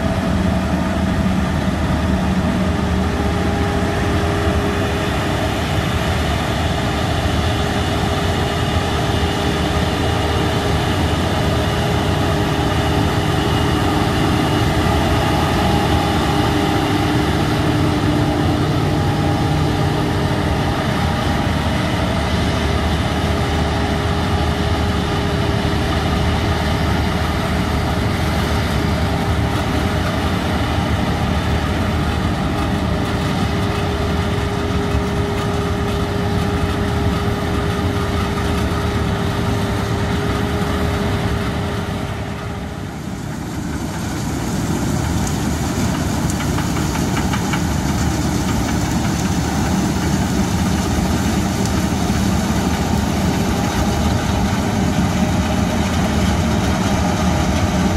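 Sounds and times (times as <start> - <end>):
combine harvester engine and machinery: 0.0 - 57.9
held whine: 0.0 - 57.9.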